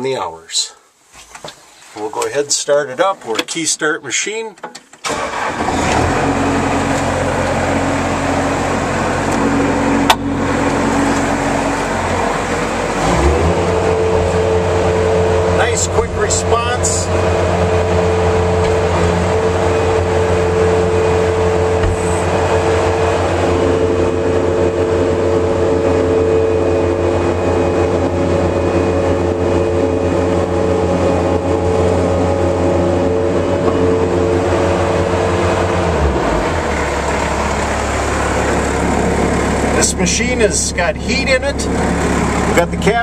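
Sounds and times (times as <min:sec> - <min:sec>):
diesel engine running: 0:05.1 - 0:43.0.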